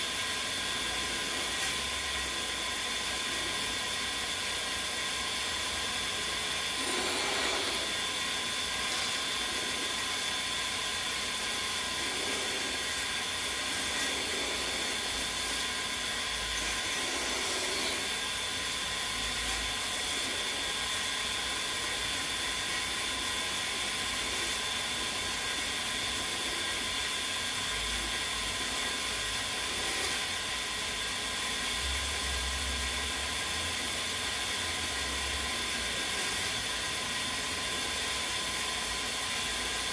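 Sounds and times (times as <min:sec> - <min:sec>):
electric drill whine: 0:00.0 - 0:39.9.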